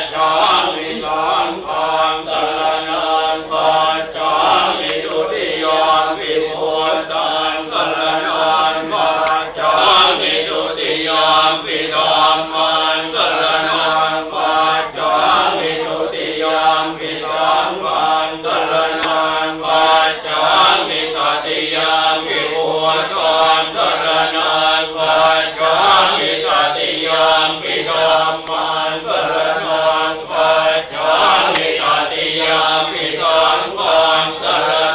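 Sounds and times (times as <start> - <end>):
monks chanting in unison: 0.0 - 34.9.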